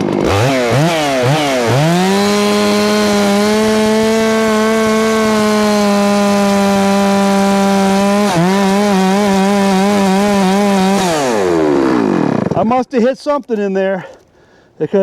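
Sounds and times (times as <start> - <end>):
chainsaw at high revs: 0.0 - 12.6.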